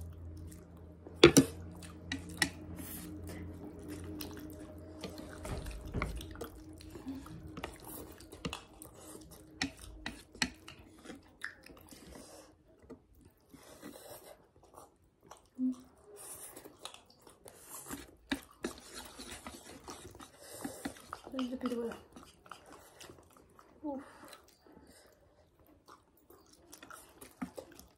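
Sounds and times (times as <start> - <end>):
wet chewing and slurping: 0.0 - 27.9.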